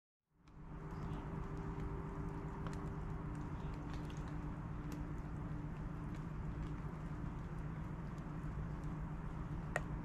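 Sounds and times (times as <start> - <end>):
faint clicks: 0.4 - 9.0
low machine hum: 0.5 - 10.0.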